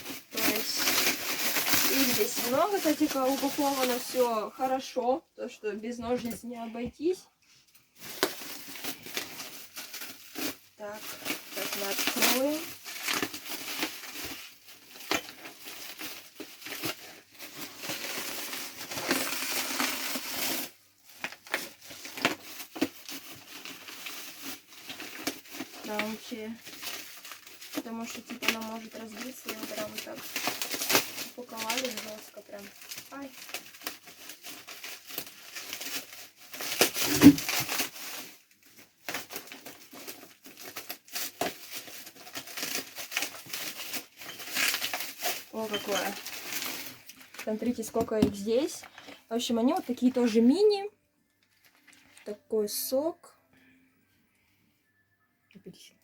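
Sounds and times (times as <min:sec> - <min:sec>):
plastic packaging crinkling: 0:00.0 - 0:04.9, 0:07.5 - 0:53.0.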